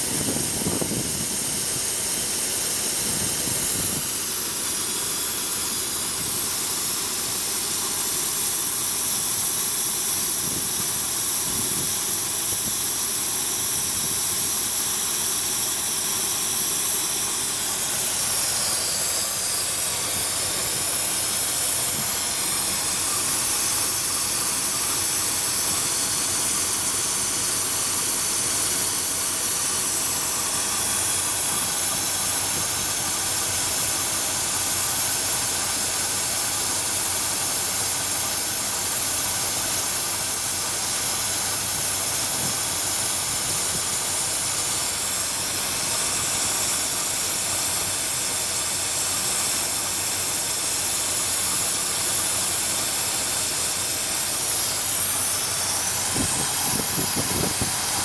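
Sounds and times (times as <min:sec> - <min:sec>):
engine idling: 0:00.0 - 0:58.0
strong even hiss: 0:00.0 - 0:58.0.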